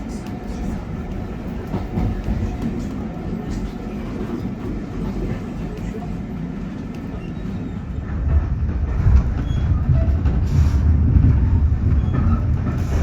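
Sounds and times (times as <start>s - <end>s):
train carriage rumbling on rails: 0.0s - 13.0s.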